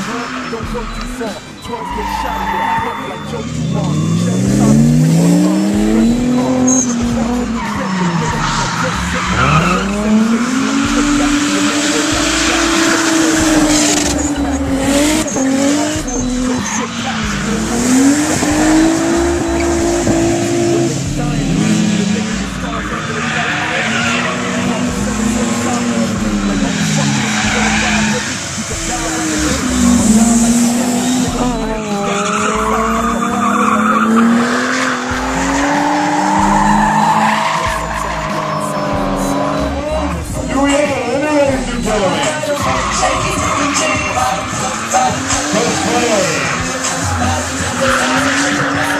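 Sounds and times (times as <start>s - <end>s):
car engine at high revs: 0.0s - 48.9s
tyres squealing and sliding: 0.0s - 48.9s.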